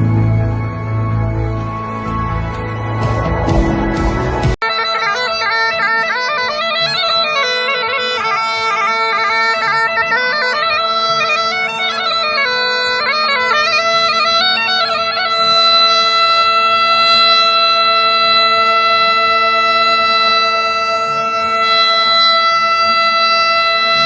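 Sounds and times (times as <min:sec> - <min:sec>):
bagpipe melody over drone: 0:00.0 - 0:24.0.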